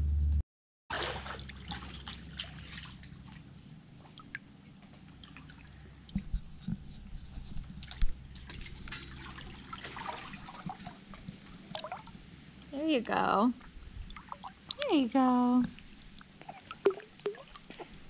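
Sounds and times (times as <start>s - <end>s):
water drips and splashes: 0.9s - 6.4s, 7.8s - 12.8s, 13.6s - 18.0s
water sloshing and trickling: 0.9s - 18.0s.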